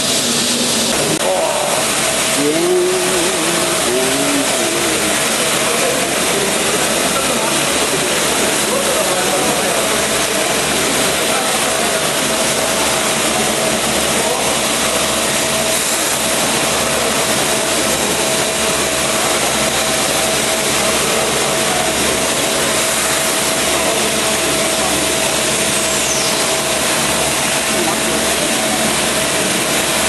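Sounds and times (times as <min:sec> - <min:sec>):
lathe running: 0:00.0 - 0:30.0.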